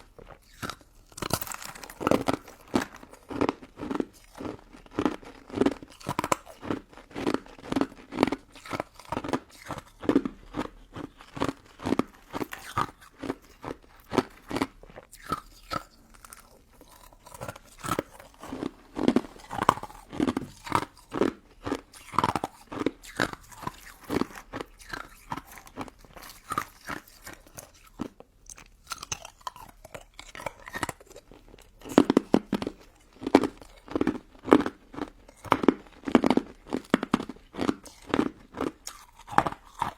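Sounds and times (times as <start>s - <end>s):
crunching and chewing icy dessert: 0.0s - 39.9s.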